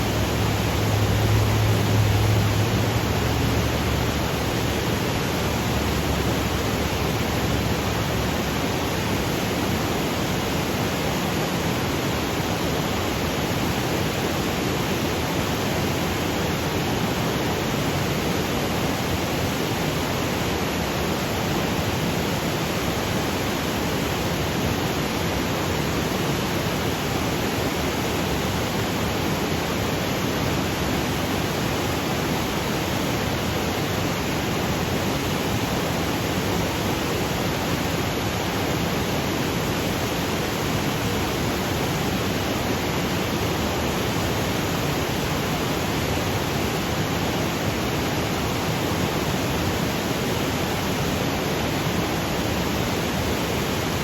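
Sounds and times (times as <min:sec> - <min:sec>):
waterfall rushing over boulders: 0:00.0 - 0:54.0.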